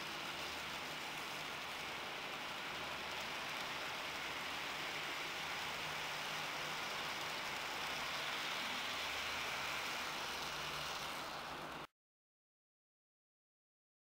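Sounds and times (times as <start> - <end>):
model train wheels clattering: 0.0 - 11.8.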